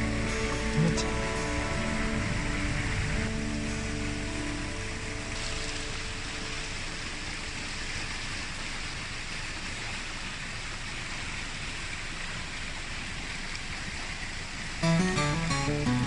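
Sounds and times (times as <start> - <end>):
stream flowing over stones: 0.0 - 16.0.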